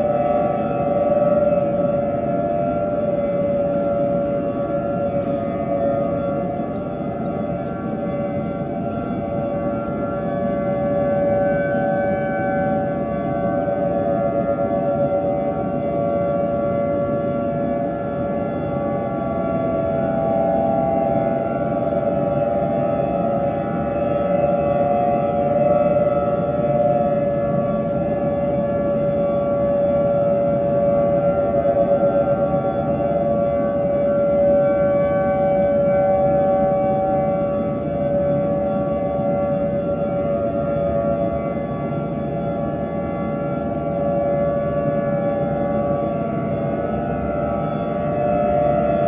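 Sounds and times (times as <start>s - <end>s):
warning siren steady tone: 0.0s - 49.0s.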